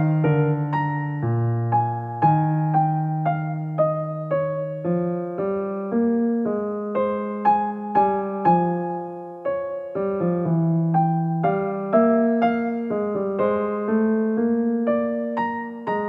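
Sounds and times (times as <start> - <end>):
gentle electric piano melody: 0.0 - 16.0.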